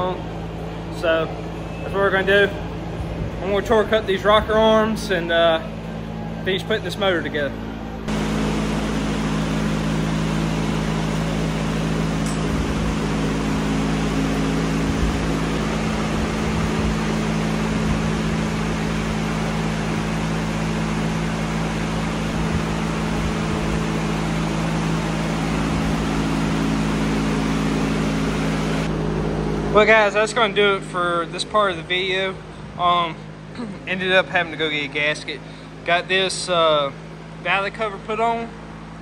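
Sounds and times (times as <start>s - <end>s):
fan whirring: 0.0s - 39.0s.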